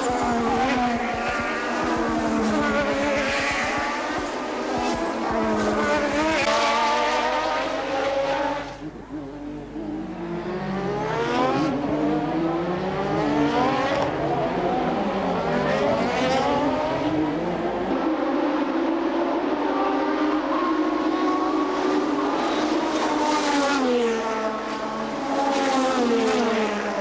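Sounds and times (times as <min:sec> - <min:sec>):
racing cars accelerating: 0:00.0 - 0:27.0.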